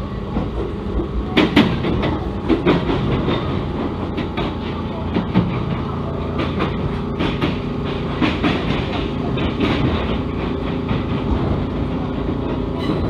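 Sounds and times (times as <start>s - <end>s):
rail joint clacks: 0.0s - 13.0s
train wheels rumbling: 0.0s - 13.0s.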